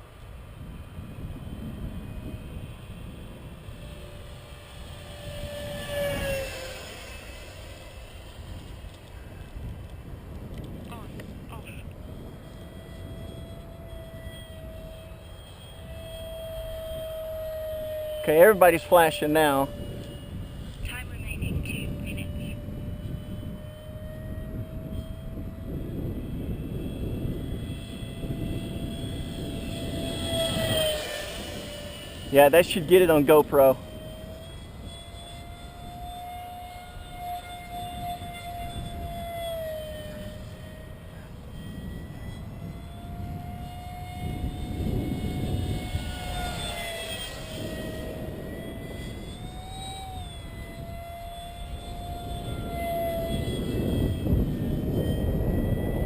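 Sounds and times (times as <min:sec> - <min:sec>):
electric ducted fan whining: 0:00.0 - 0:56.0.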